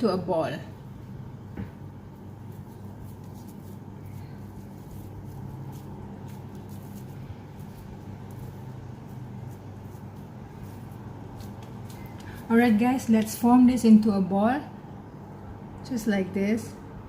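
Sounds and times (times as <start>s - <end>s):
hands shaping cookie dough: 0.0s - 14.0s
steady low hum: 0.0s - 17.0s.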